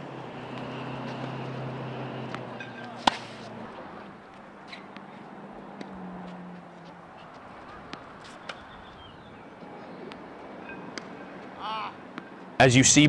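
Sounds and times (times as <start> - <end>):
tennis ball strikes and bounces: 0.0 - 12.6.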